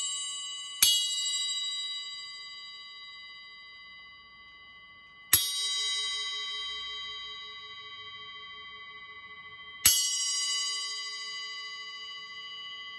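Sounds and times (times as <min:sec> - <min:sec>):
bell cymbal struck with drumstick: 0:00.0 - 0:04.2, 0:05.3 - 0:12.9.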